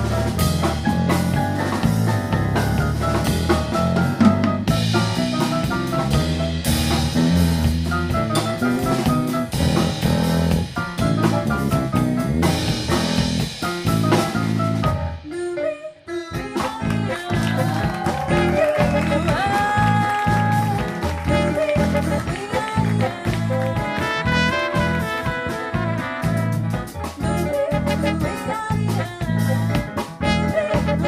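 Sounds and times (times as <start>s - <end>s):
live jazz band playing: 0.0s - 31.0s.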